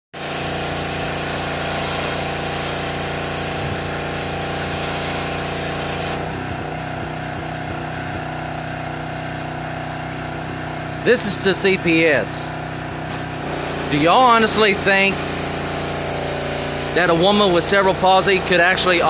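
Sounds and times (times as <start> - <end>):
pressure washer spraying: 0.2 - 10.5, 13.1 - 19.0
pressure washer motor hum: 0.2 - 19.0.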